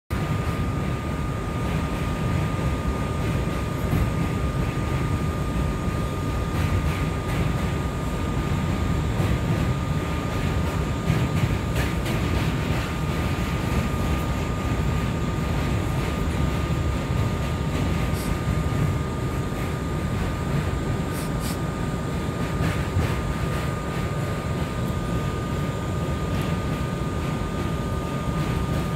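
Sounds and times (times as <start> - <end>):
subway wheels rumbling on track: 0.1 - 28.9.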